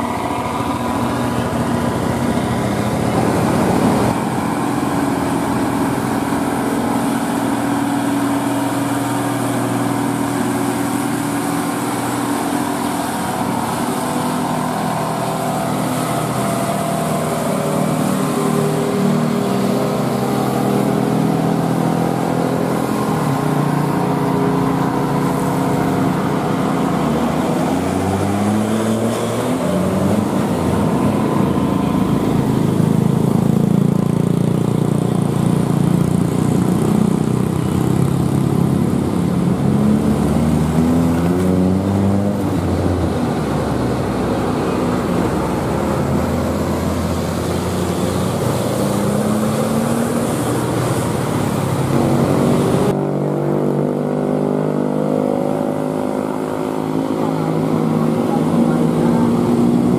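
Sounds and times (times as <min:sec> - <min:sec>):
diesel truck engines climbing: 0:00.0 - 0:59.9
passing traffic: 0:00.0 - 0:59.9.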